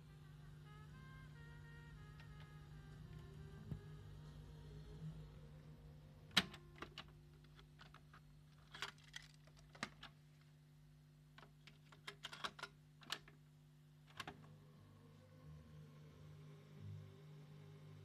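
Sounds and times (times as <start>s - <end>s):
steady low hum: 0.0s - 12.0s, 12.7s - 18.0s.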